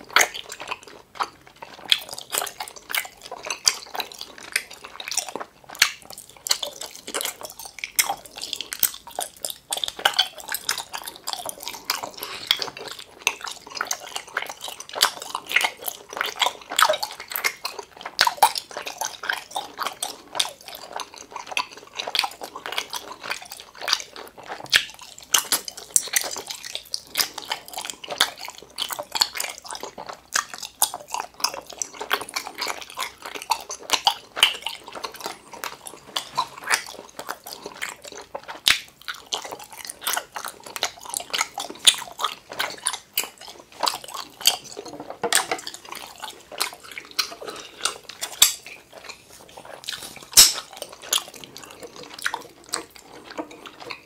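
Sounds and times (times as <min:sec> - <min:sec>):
chewing gummy jelly: 0:00.0 - 0:54.0.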